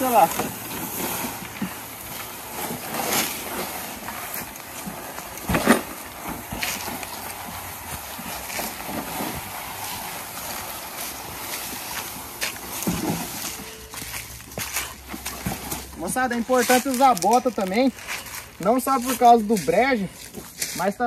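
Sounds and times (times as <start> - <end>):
footsteps crunching through leaf litter: 0.0 - 21.0.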